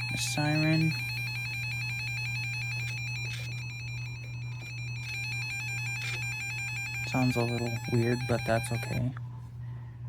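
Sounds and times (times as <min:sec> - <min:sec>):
pulsing electronic alert tone: 0:00.0 - 0:09.1
low hum: 0:00.0 - 0:10.0.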